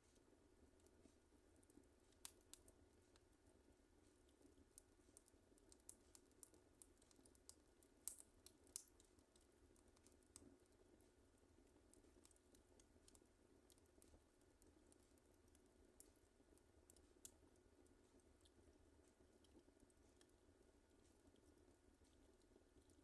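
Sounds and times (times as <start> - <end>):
wood fire crackling: 0.2 - 23.0.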